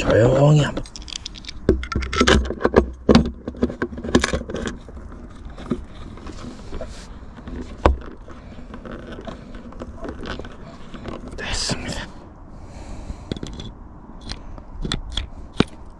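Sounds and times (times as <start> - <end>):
fishing gear clicks and knocks: 0.0 - 11.8, 13.1 - 15.9.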